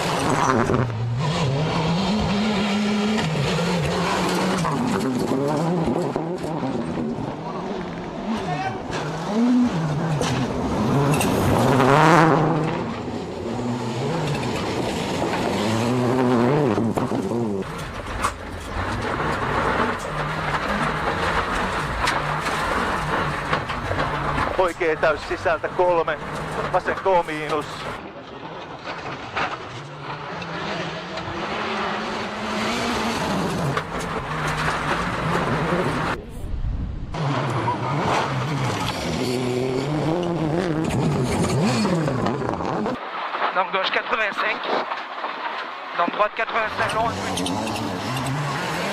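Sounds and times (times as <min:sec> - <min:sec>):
rally car engine revving: 0:00.0 - 0:48.9
tyre and road noise: 0:00.0 - 0:48.9.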